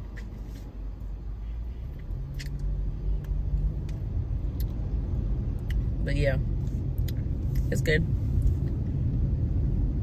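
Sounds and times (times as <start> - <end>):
low rumble inside car cabin: 0.0 - 10.0.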